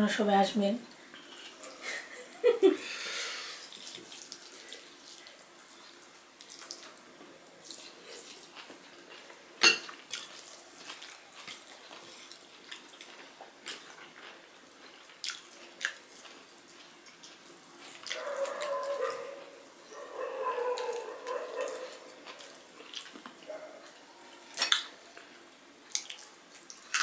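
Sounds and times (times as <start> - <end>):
chewing and lip smacking: 3.6 - 27.0.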